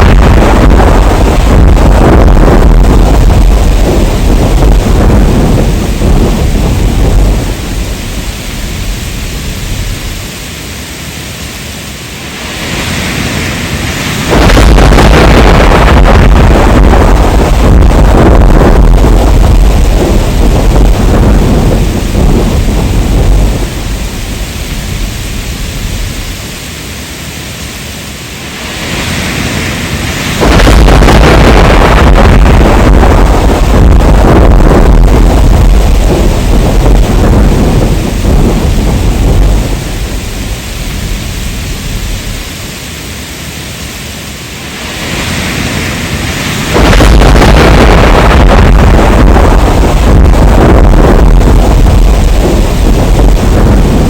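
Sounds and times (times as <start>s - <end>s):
deep thunder rumble: 0.0s - 10.7s, 11.6s - 26.8s, 28.5s - 42.8s, 44.7s - 54.0s
heavy rain: 0.0s - 54.0s.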